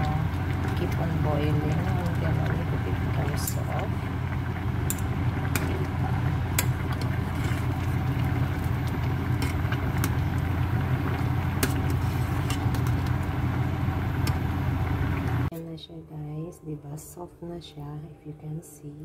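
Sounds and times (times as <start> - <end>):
low mechanical hum: 0.0 - 18.6.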